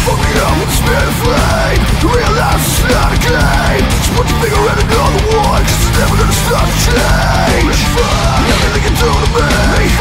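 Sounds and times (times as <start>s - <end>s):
heavy rock music: 0.0s - 10.0s.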